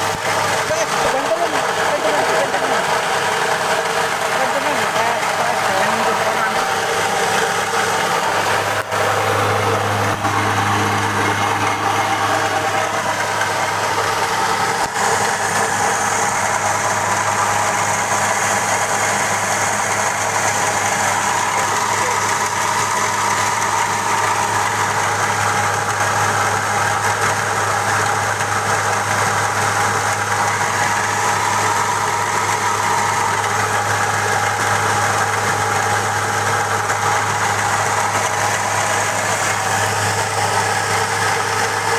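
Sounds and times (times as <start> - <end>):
rice huller running: 0.0 - 41.9.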